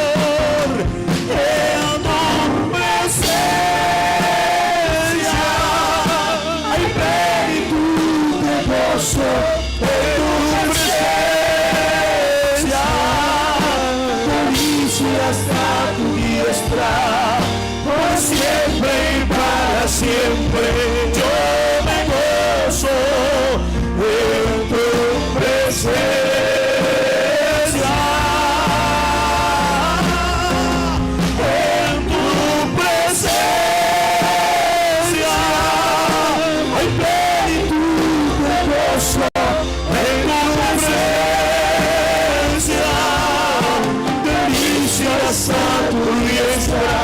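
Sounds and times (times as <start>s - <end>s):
live band playing praise song: 0.0s - 47.0s.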